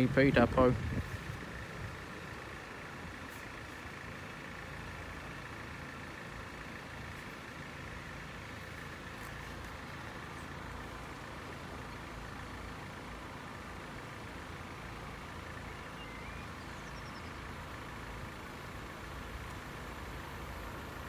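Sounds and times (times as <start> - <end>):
engine idling: 0.0 - 21.0
faint outdoor background noise: 0.0 - 21.0.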